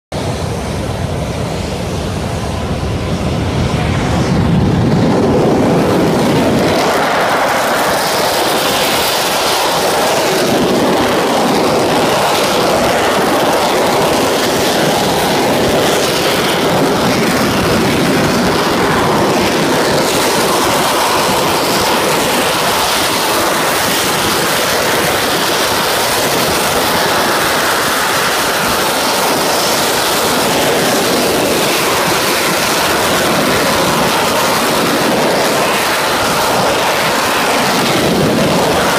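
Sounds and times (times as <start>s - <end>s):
jet engine roar: 0.1s - 38.9s.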